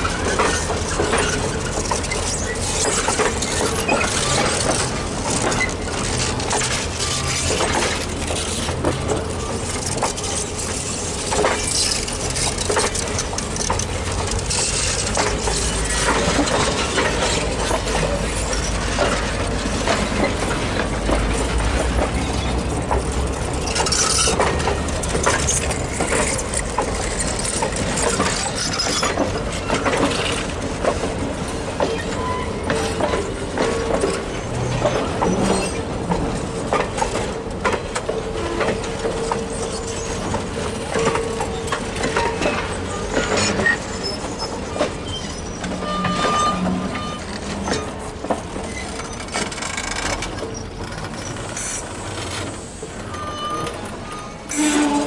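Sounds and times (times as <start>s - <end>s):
clicks and clanks of train cars: 0.0s - 55.0s
train wheels rumbling on rails: 0.0s - 55.0s.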